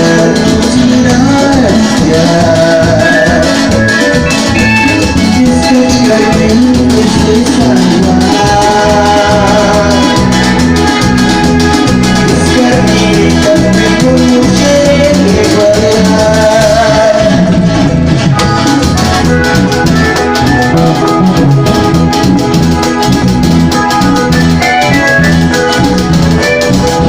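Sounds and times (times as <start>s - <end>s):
latin dance band music: 0.0s - 27.0s.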